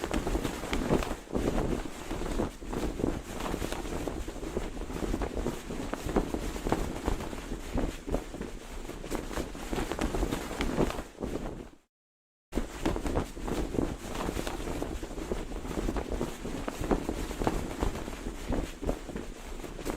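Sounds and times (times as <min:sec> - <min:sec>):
flag flapping in wind: 0:00.0 - 0:11.9, 0:12.6 - 0:19.9.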